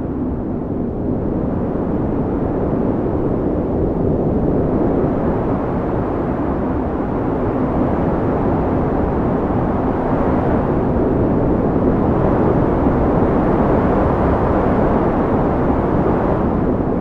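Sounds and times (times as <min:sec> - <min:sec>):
blizzard wind blowing hard: 0:00.0 - 0:17.0.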